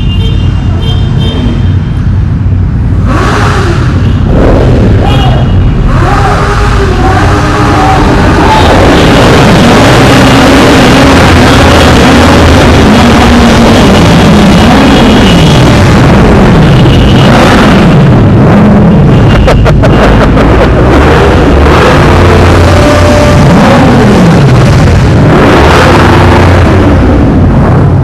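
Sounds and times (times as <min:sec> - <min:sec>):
motorcycles revving in a tunnel: 0:00.0 - 0:28.0.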